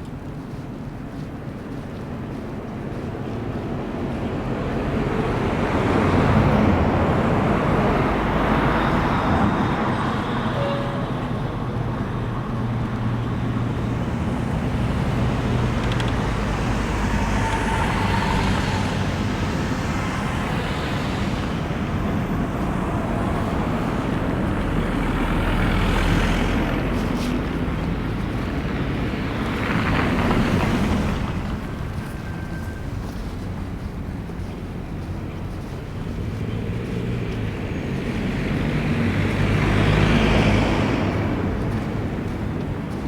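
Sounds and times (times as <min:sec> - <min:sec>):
low engine hum: 0:00.0 - 0:43.0
vehicles passing: 0:00.0 - 0:43.0.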